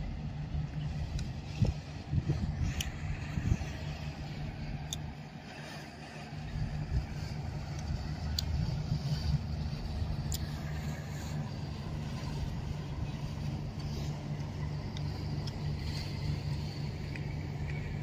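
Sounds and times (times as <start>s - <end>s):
ship engines rumbling: 0.0s - 18.0s.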